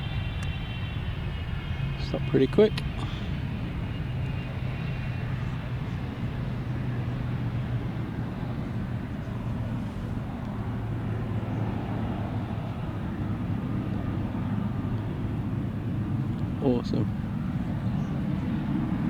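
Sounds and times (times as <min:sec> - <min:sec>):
distant jet engine rumble: 0:00.0 - 0:19.0.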